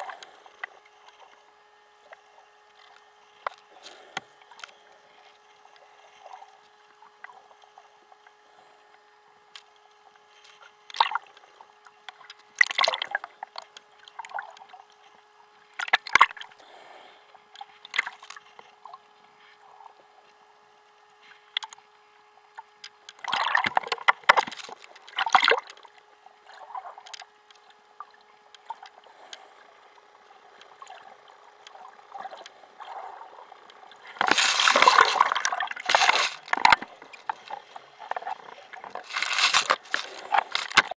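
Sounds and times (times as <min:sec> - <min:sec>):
faint hum: 0:00.0 - 0:41.0
underwater bubbling: 0:00.0 - 0:41.0.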